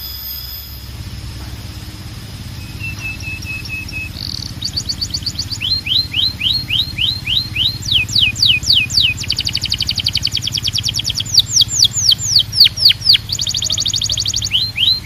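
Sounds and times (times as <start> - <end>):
canary singing: 0.0 - 15.0
steady low hum: 0.0 - 15.0.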